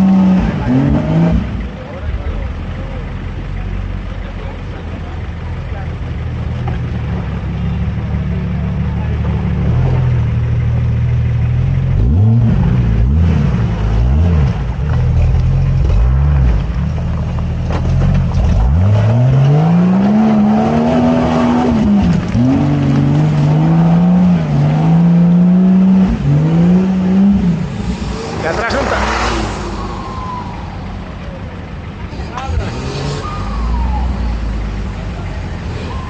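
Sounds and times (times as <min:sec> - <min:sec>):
off-road engine revving: 0:00.0 - 0:36.0.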